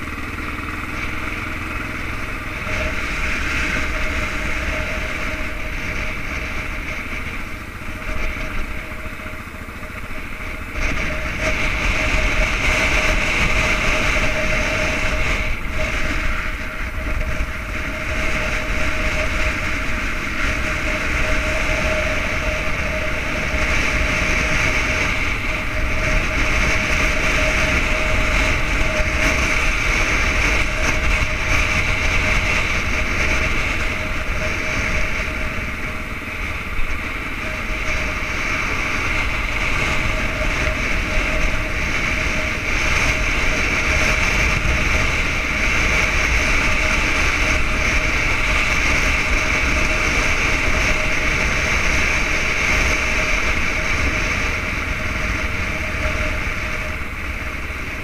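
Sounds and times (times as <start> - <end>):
motorcycle engine running: 0.0 - 58.0
wind rushing past microphone: 0.0 - 58.0.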